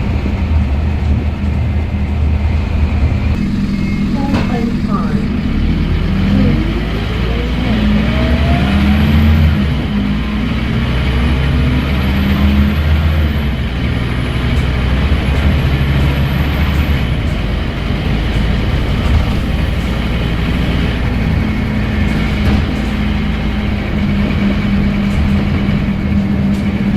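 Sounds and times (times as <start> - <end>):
bus engine running: 0.0 - 26.9.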